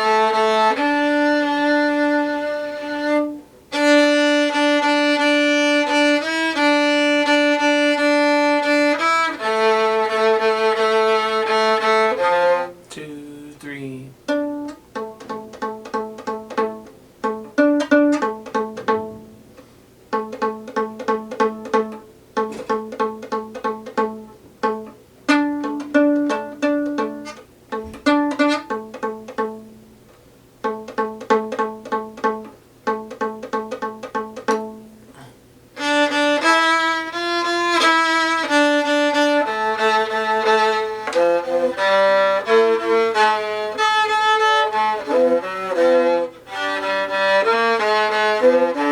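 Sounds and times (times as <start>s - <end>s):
viola plucked pizzicato: 0.0s - 13.6s, 14.2s - 48.9s
viola bowed notes: 0.0s - 30.0s, 30.6s - 35.1s, 35.8s - 48.9s.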